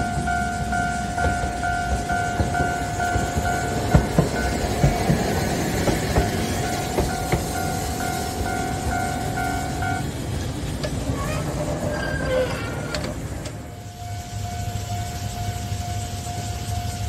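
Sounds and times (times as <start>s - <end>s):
level-crossing alarm ringing: 0.0s - 10.4s, 11.8s - 17.0s
wheels clicking over rail joints: 0.0s - 13.9s
tram rolling past: 0.0s - 17.0s.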